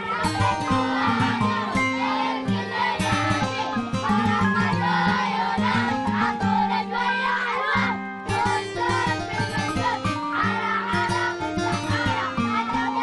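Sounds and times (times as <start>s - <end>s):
folk music group singing: 0.0s - 13.0s.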